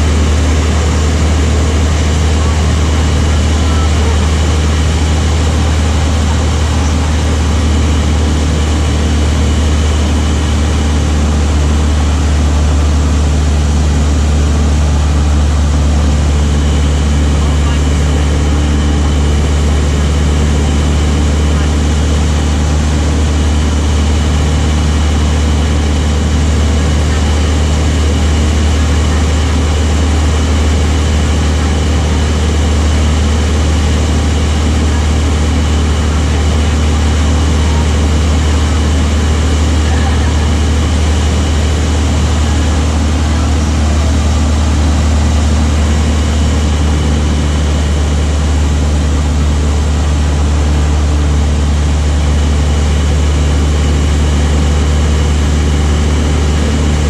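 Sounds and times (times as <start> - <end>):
propeller aeroplane engine drone: 0.0 - 57.0.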